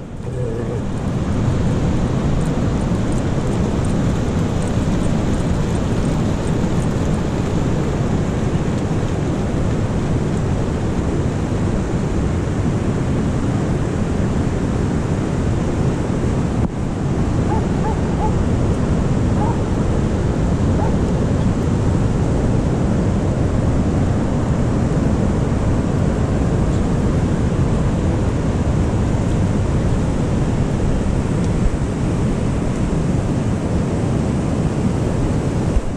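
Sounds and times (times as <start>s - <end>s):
wind on microphone: 0.0s - 35.9s.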